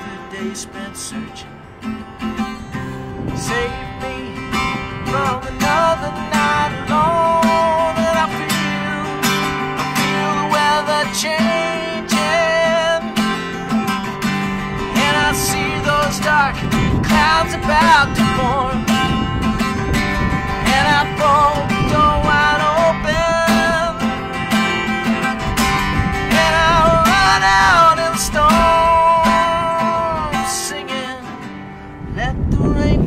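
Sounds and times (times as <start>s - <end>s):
man singing: 0.0s - 1.5s, 3.2s - 13.8s, 14.8s - 19.2s, 20.2s - 24.9s, 26.2s - 31.5s, 32.1s - 33.0s
acoustic guitar strumming: 0.0s - 33.0s.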